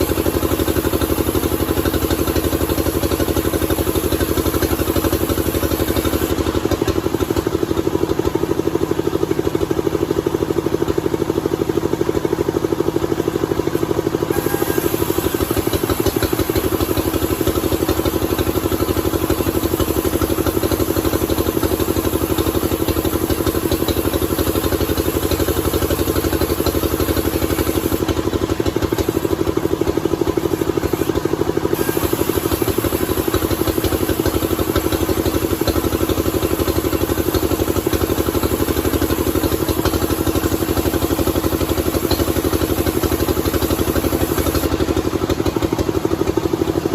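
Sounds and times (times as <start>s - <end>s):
engine running at constant speed: 0.0s - 46.9s.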